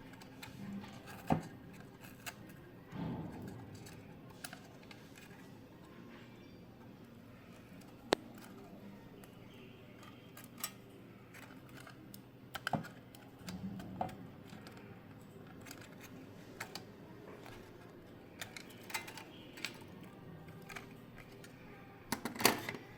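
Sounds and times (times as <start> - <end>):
small parts clicking and tapping: 0.0 - 22.8.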